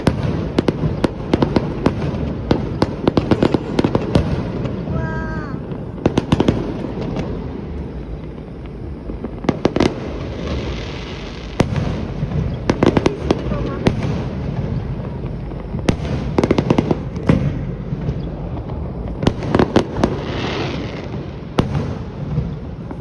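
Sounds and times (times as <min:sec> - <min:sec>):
fireworks bangs and crackles: 0:00.0 - 0:23.0
steady background noise: 0:00.0 - 0:23.0.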